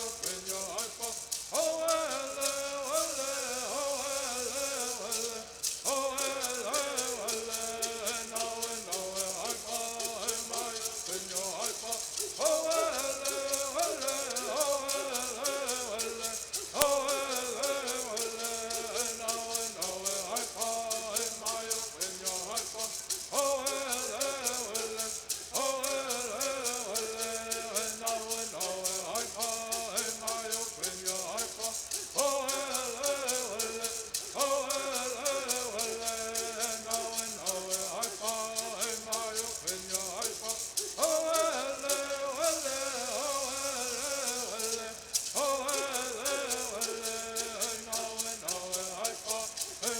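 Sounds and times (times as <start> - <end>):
gourd rattles shaking: 0.0 - 49.9
people singing: 0.0 - 49.9.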